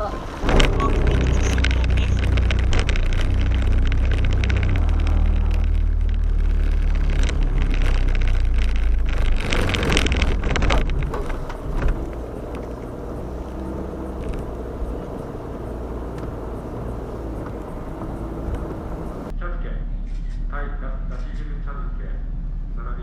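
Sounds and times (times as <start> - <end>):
noisy rush: 0.0 - 19.3
vehicle rumble: 0.0 - 23.0.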